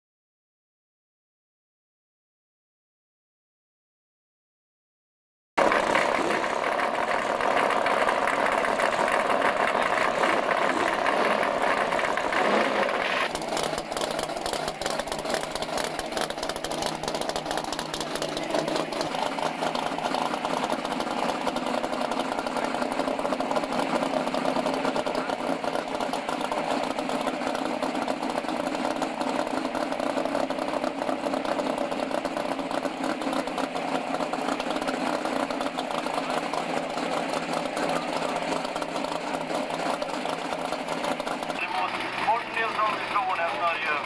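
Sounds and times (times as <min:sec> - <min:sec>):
drag car engine idling: 0:05.6 - 0:44.0.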